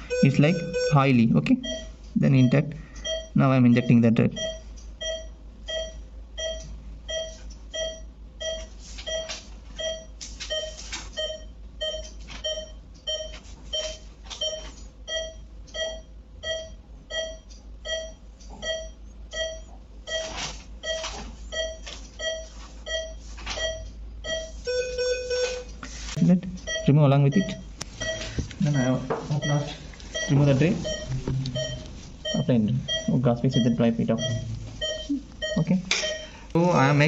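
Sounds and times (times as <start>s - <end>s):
short high monitor beeps: 0.1s - 1.0s, 1.6s - 25.7s, 26.7s - 36.4s.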